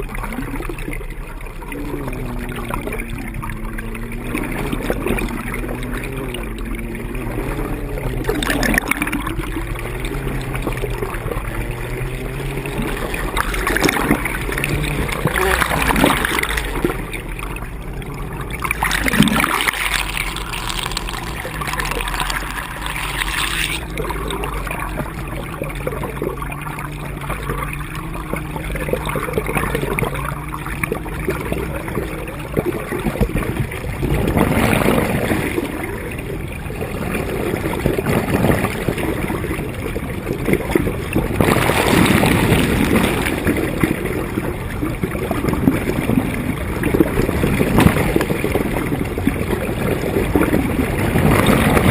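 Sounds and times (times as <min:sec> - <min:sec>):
low steady hum: 0:00.0 - 0:51.9
water rushing along a hull: 0:00.0 - 0:51.9.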